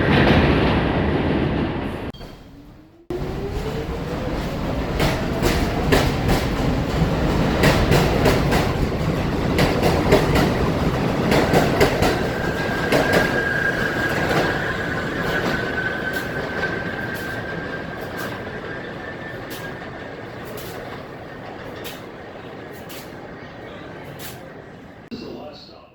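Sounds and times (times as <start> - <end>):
subway train motor whine: 0.0 - 25.1
wheels clacking over rail joints: 0.0 - 25.1.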